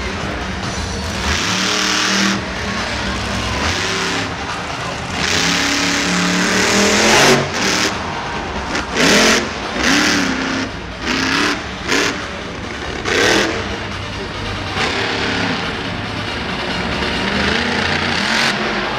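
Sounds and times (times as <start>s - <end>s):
monster truck engine revving: 0.0s - 18.9s.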